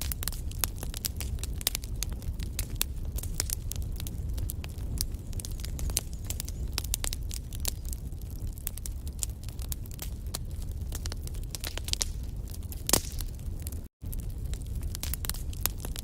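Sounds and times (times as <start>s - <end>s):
low rumble of flames: 0.0s - 16.0s
pops and snaps of burning logs: 0.0s - 16.0s.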